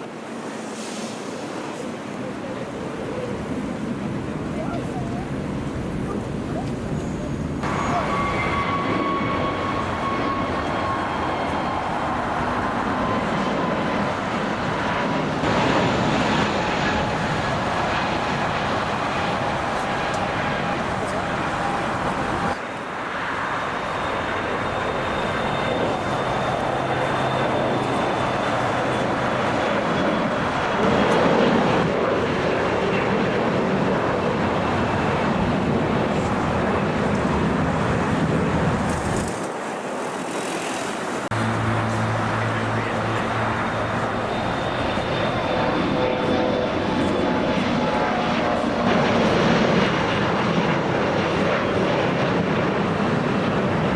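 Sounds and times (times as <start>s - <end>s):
jet engines rumbling and whining: 0.0s - 53.9s.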